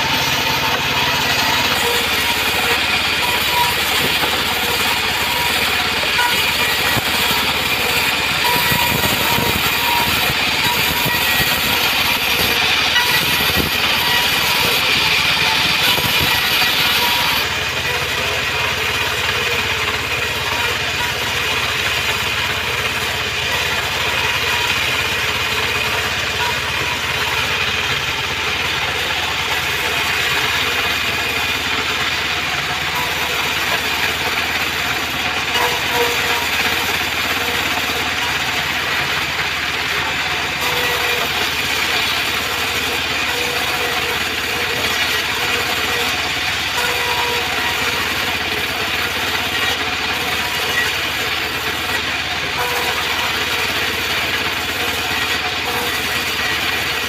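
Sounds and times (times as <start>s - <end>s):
band sawmill cutting wood: 0.0s - 57.0s.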